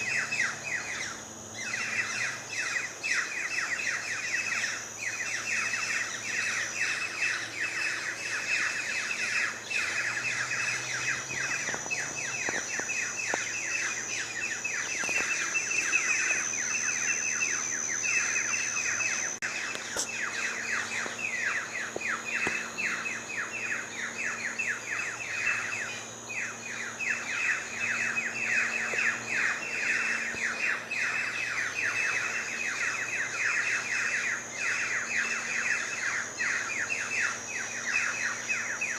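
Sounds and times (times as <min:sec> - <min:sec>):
birds chirping: 0:00.0 - 0:38.9
high-pitched steady tone: 0:00.0 - 0:38.9.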